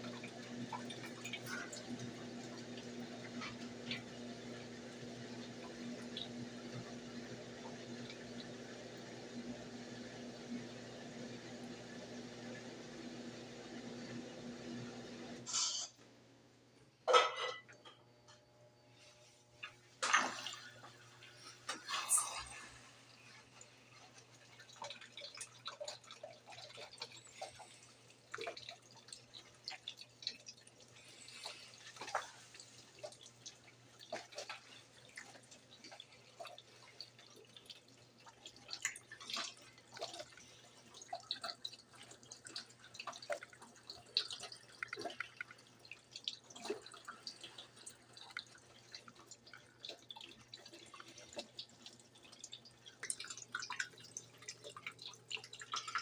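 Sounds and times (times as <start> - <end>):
water splashing in washing machine: 0.0 - 15.5, 19.0 - 56.0.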